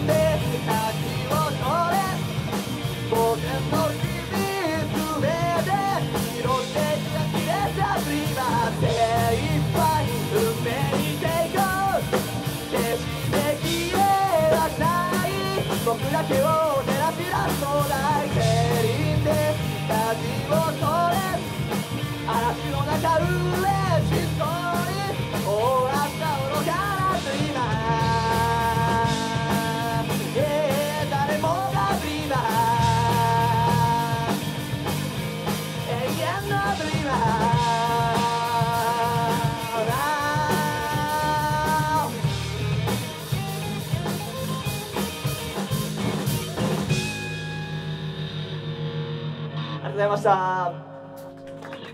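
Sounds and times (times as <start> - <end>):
person singing lead vocal: 0.0 - 42.7
rock band playing: 0.0 - 51.9.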